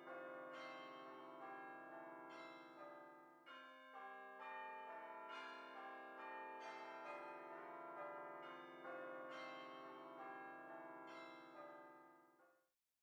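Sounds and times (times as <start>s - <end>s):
faint ringing bells: 0.0s - 12.3s.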